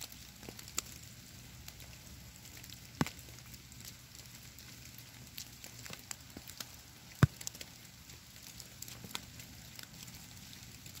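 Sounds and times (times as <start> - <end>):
wet snow pattering on leaves: 0.0 - 11.0.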